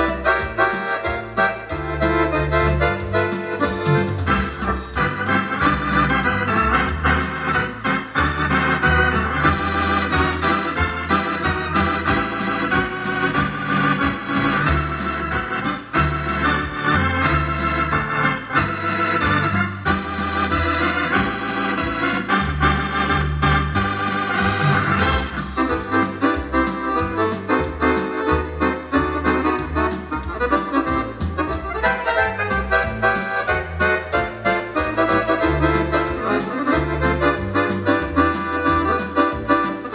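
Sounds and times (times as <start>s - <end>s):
electronic organ music with beat: 0.0s - 39.9s.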